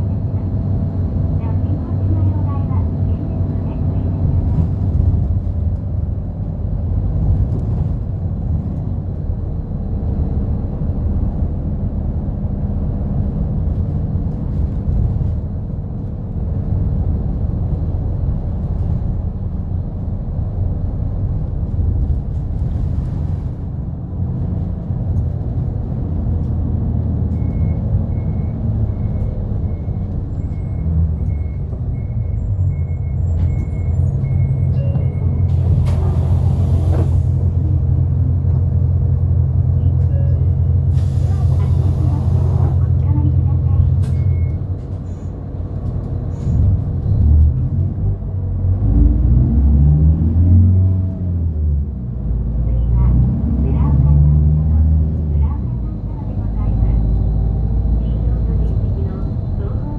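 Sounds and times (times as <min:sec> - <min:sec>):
bus engine rumble: 0:00.0 - 0:59.9
road noise: 0:00.0 - 0:59.9.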